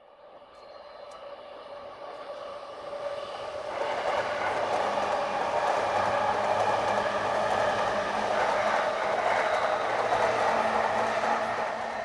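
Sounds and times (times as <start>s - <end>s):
electric train passing on tracks: 0.0s - 12.0s.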